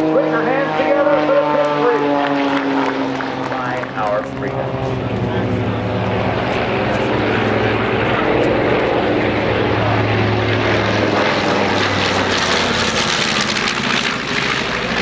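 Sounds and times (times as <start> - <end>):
propeller plane engine drone: 0.0 - 15.0
rushing noise of passing aircraft: 0.0 - 15.0.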